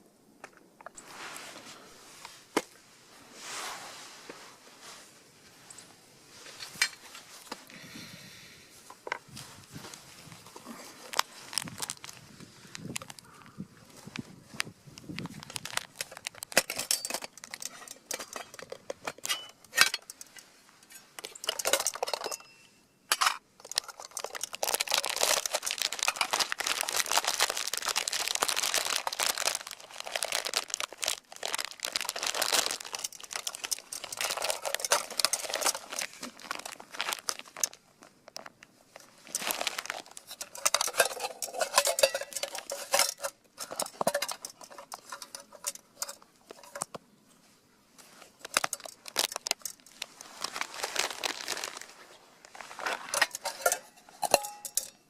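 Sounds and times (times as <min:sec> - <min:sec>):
crinkling and rustling: 0:00.0 - 0:07.8, 0:08.8 - 0:55.0.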